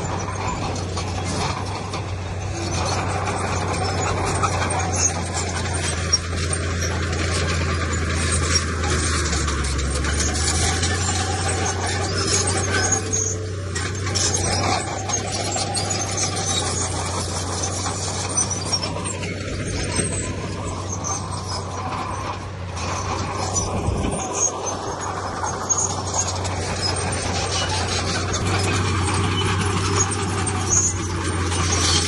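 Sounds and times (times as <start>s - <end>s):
bulldozer diesel engine: 0.0s - 32.0s
steel tracks squealing and clattering: 0.0s - 32.0s.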